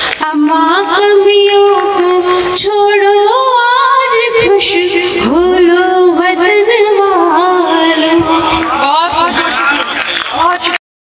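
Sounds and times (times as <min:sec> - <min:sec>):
woman singing into microphone: 0:00.0 - 0:09.4.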